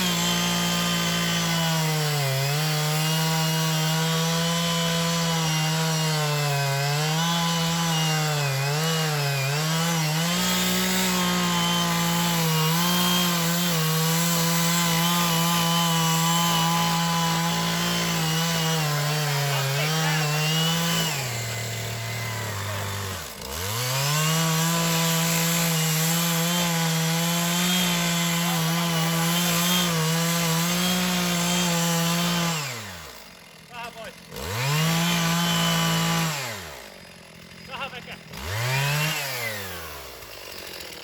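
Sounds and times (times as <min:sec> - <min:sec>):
chainsaw cutting wood: 0:00.0 - 0:41.0
chainsaw idling: 0:00.0 - 0:41.0.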